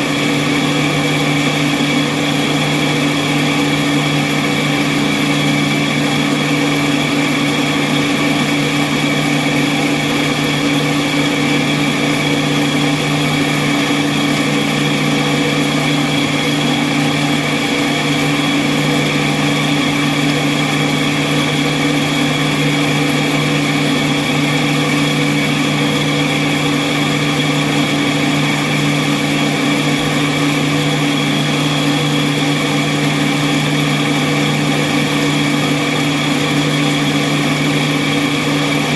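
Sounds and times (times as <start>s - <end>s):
machine motor hum: 0.0s - 38.9s.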